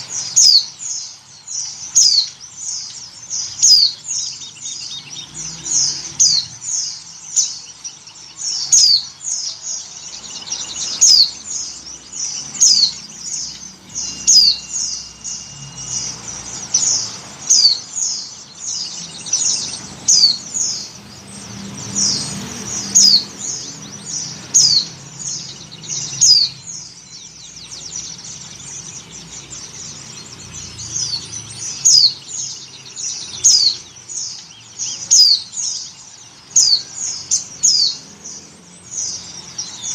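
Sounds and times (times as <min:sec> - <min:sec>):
high bird chirps sliding downward: 0:00.0 - 0:39.9.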